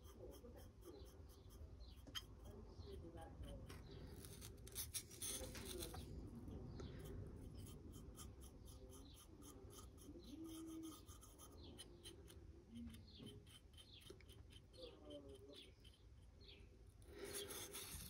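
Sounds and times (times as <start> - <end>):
paintbrush scratching and tapping: 0.0 - 16.6, 17.2 - 18.0.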